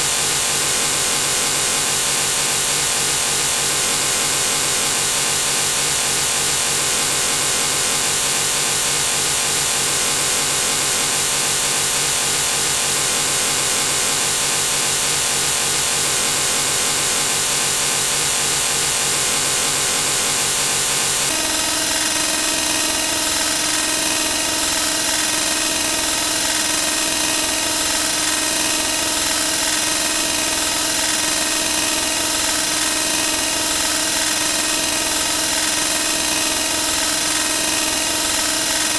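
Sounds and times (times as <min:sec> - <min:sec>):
continuous buzzing drone: 0:00.0 - 0:38.9.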